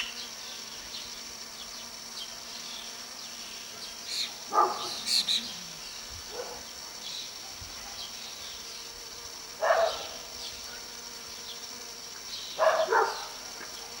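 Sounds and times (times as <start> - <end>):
high insect chirring: 0.0 - 14.0.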